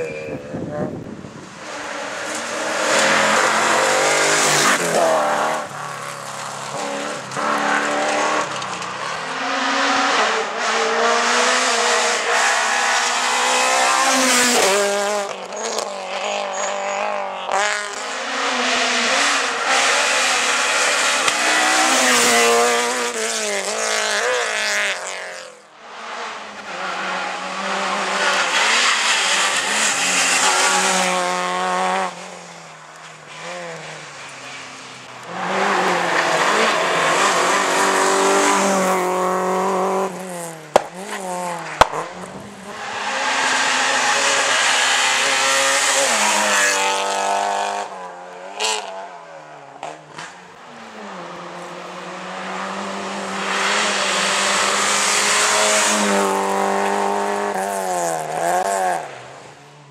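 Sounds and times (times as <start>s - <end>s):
rally cars revving past: 1.4s - 59.9s.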